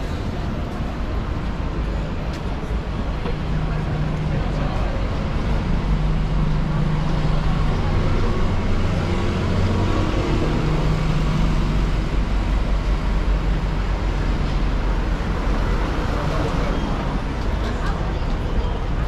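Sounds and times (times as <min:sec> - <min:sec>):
street noise: 0:00.0 - 0:19.0
vehicle engine hum: 0:00.0 - 0:19.0.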